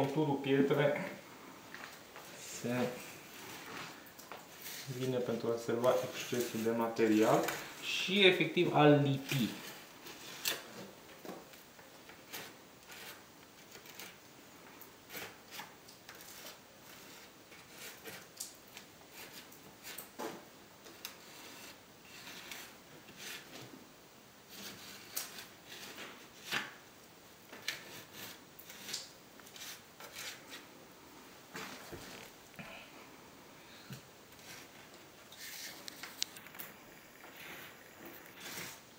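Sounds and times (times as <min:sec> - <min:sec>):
wood scraping grout: 0:01.7 - 0:08.5, 0:09.1 - 0:14.2, 0:15.0 - 0:23.7, 0:24.5 - 0:26.8, 0:27.5 - 0:30.7, 0:31.5 - 0:32.4, 0:34.3 - 0:38.9.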